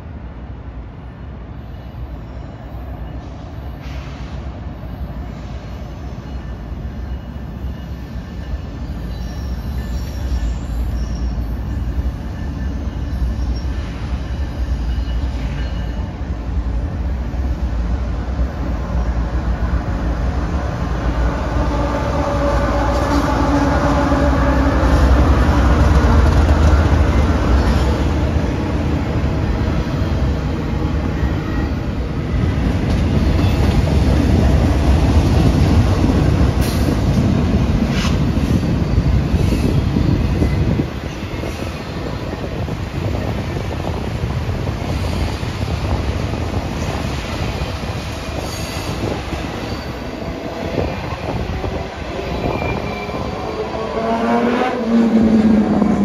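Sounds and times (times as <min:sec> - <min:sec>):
diesel locomotive engine drone: 0:00.0 - 0:56.0
wheels rumbling on rail: 0:00.0 - 0:56.0.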